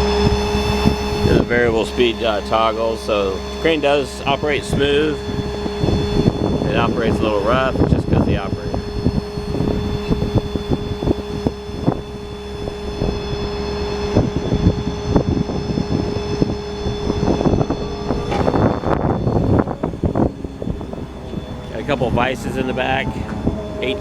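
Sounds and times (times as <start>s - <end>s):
crane clunks and knocks: 0.0s - 24.0s
crane motor whining: 0.0s - 24.0s.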